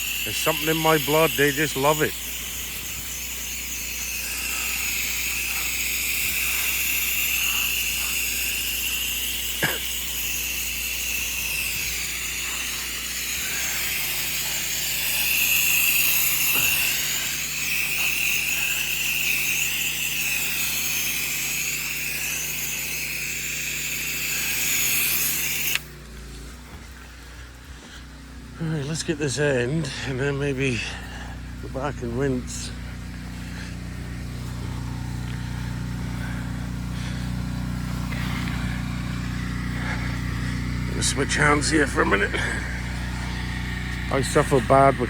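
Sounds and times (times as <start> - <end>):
hose nozzle spraying hiss: 0.0 - 45.0
low pump hum: 0.0 - 45.0.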